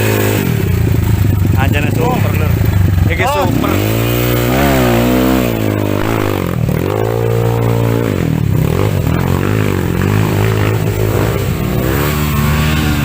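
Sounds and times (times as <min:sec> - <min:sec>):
gritty scraping and clatter: 0:00.0 - 0:13.0
motorcycle engine revving: 0:00.0 - 0:13.0.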